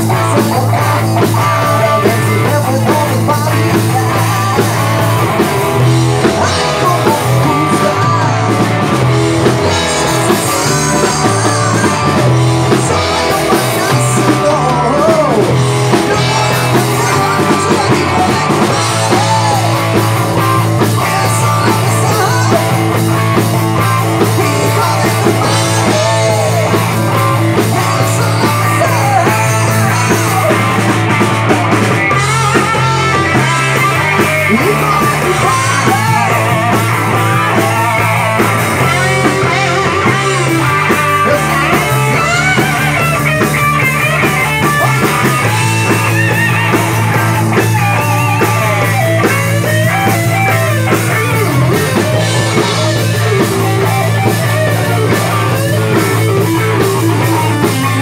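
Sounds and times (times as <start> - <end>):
man singing: 0.0 - 58.0
rock band playing live: 0.0 - 58.0.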